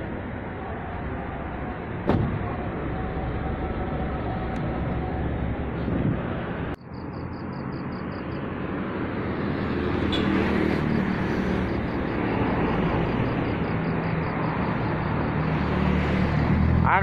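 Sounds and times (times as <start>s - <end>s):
traffic noise with engine hum: 0.0s - 17.0s.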